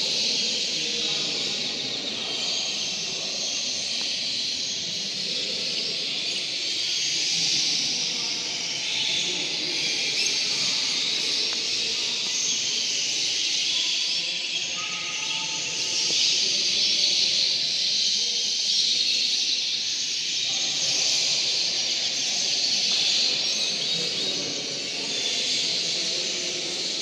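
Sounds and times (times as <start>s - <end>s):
low background murmur: 0.0s - 27.0s
canaries twittering: 0.1s - 27.0s.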